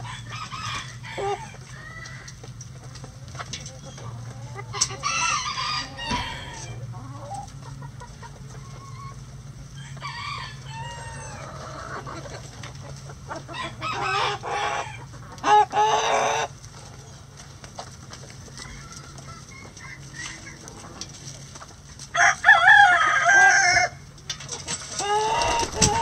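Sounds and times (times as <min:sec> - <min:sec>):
roosters crowing: 0:00.0 - 0:16.6, 0:18.4 - 0:26.0
hens clucking: 0:00.0 - 0:26.0.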